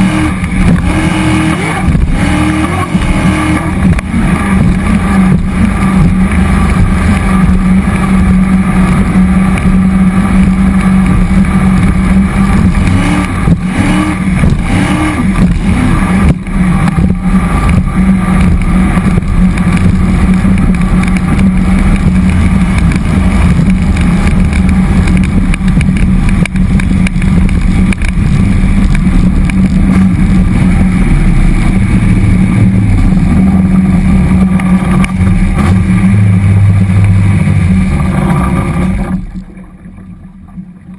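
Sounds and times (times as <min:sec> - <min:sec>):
boat engine at cruise: 0:00.0 - 0:40.9.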